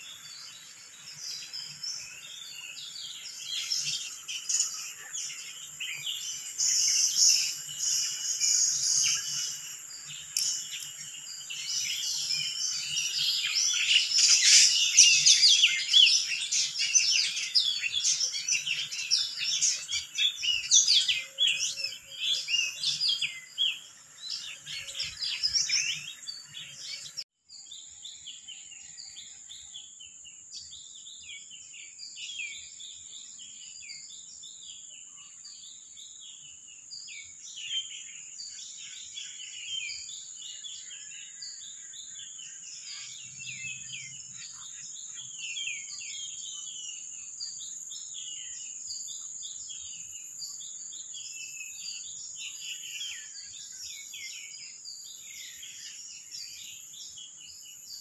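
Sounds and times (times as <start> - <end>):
wild birds chirping and twittering: 0.0 - 58.0.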